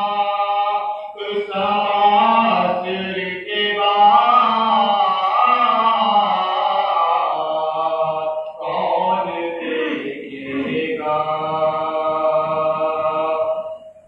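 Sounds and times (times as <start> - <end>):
person chanting a lament: 0.0 - 13.9.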